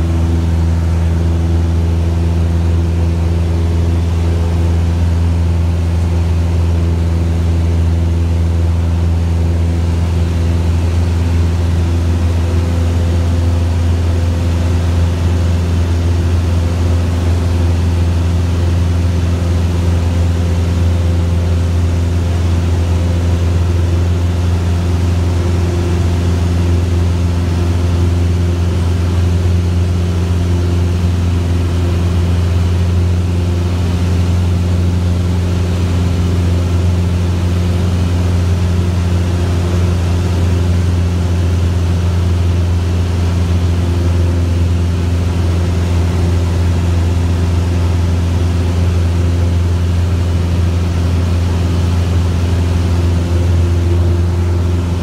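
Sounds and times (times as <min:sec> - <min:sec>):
airplane engine droning: 0:00.0 - 0:55.0.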